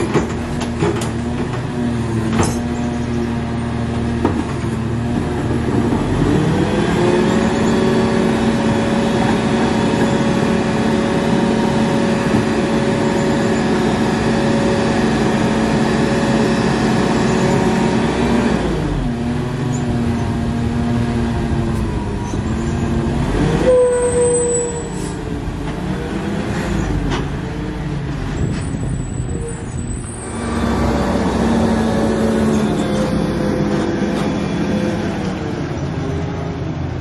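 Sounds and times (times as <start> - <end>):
truck engine revving: 5.0 - 36.6.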